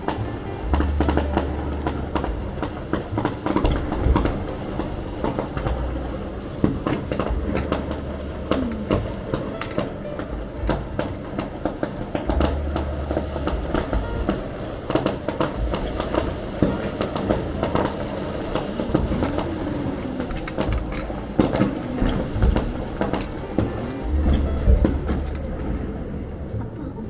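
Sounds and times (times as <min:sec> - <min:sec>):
fireworks booming: 0:00.0 - 0:26.6
fireworks popping and crackling: 0:00.1 - 0:25.8.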